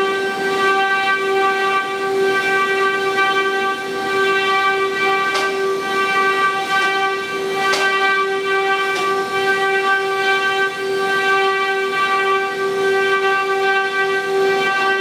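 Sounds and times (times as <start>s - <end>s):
noisy bursts: 0.0s - 15.0s.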